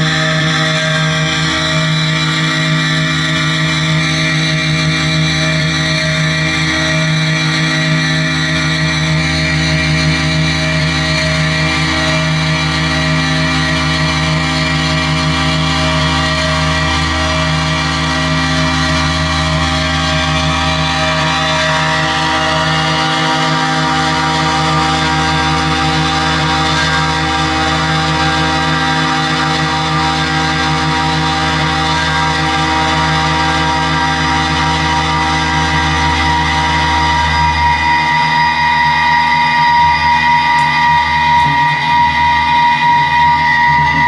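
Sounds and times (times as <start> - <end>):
electric guitar drone: 0.0 - 44.0.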